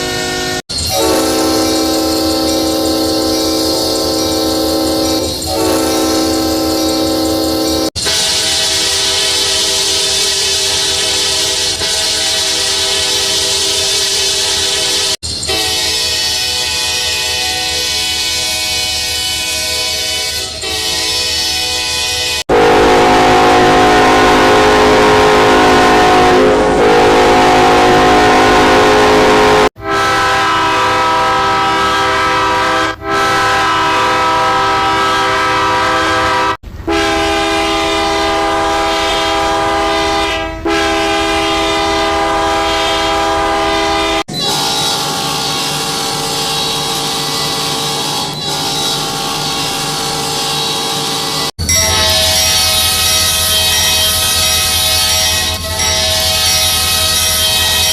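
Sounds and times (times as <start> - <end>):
train air horn blasts: 0.0 - 57.9.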